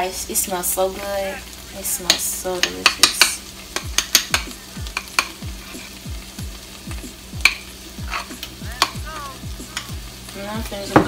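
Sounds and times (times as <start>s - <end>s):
food sizzling in pans: 0.0s - 11.0s.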